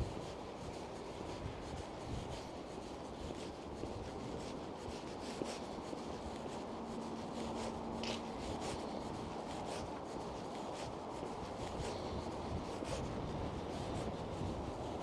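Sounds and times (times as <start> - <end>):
footsteps on pavement: 0.0 - 15.0.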